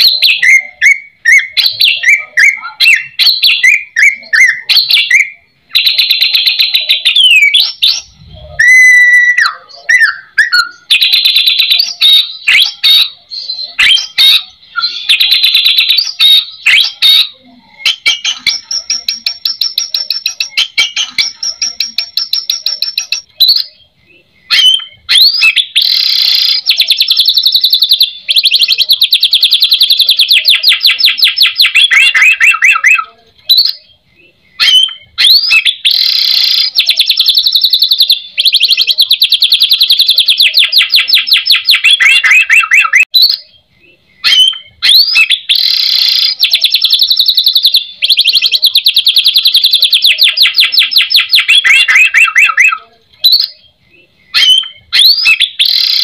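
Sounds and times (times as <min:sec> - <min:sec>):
songbird whistling song: 0:00.0 - 0:56.0.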